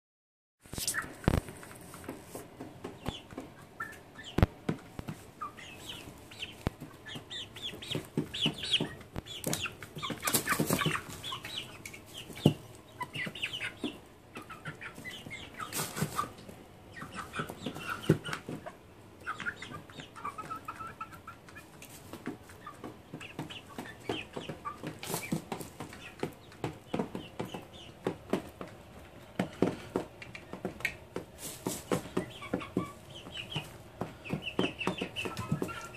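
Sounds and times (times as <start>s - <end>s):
pecking and scratching in shavings: 0.7s - 28.8s, 29.6s - 35.9s
young chickens clucking and chirping: 0.8s - 35.9s.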